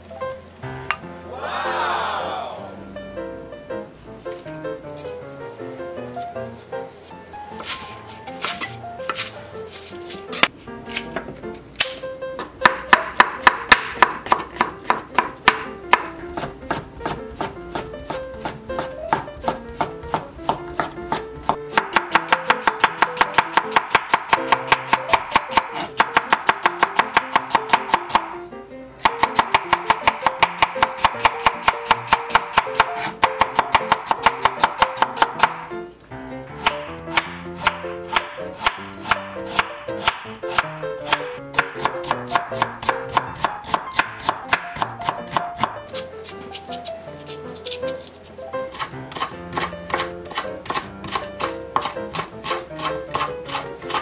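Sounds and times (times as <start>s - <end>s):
background music: 0.0s - 54.0s
knife chopping on cutting board: 7.6s - 11.2s, 11.8s - 28.3s, 29.0s - 35.7s, 36.6s - 48.1s, 48.7s - 54.0s.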